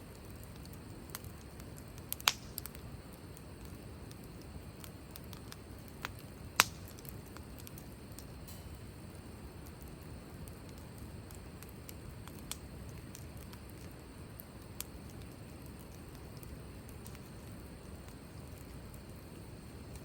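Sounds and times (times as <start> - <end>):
campfire rumbling: 0.0 - 20.0
fire crackles and pops: 0.0 - 20.0.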